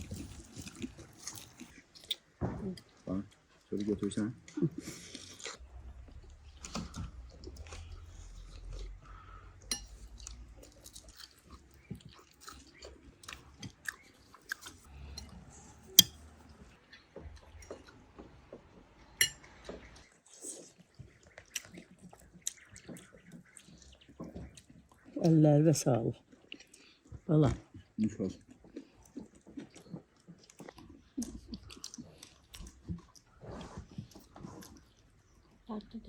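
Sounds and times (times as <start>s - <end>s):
small eating clicks: 0.0s - 18.3s, 19.5s - 25.4s, 26.1s - 36.0s
people chewing food: 0.0s - 36.0s.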